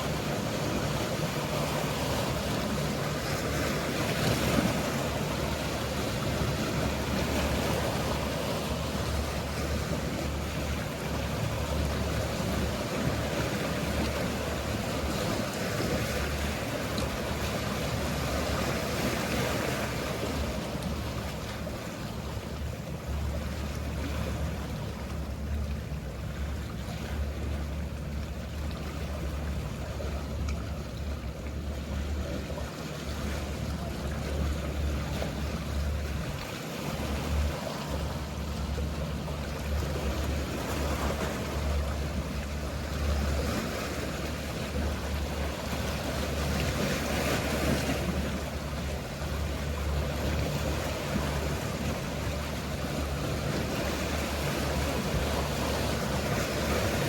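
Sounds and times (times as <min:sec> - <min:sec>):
motor boats humming: 0:00.0 - 0:57.0
sea waves washing: 0:00.0 - 0:57.0.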